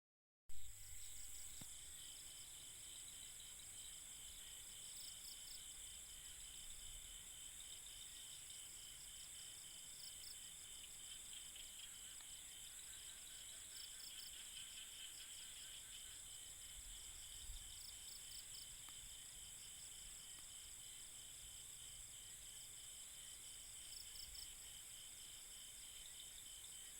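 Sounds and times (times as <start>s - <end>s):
insects trilling at night: 0.5s - 26.9s.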